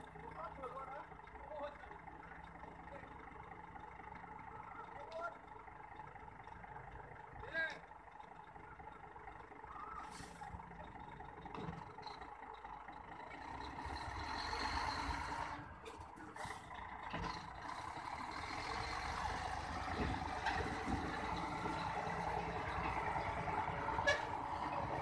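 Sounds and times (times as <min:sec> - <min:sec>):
truck diesel engine under load: 0:00.0 - 0:25.0.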